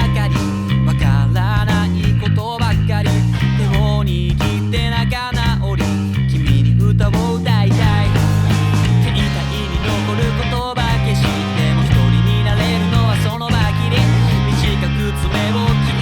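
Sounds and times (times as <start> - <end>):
electric bass guitar: 0.0 - 16.0
rock band music: 0.0 - 16.0.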